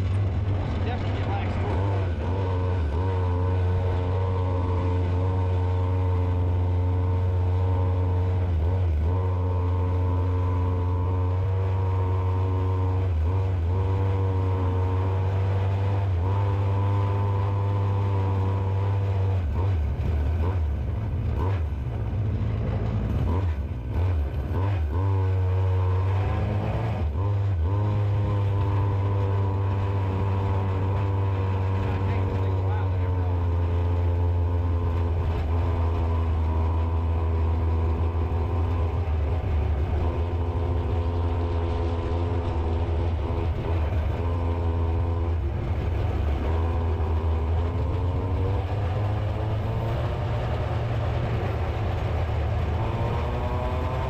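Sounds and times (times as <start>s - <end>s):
two-stroke engine revving high: 0.0s - 22.0s, 22.6s - 54.0s.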